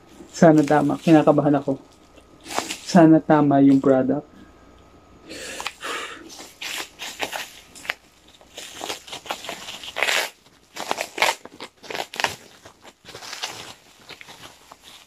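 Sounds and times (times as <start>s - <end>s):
bubble wrap crinkling: 0.1s - 3.1s, 5.5s - 15.0s.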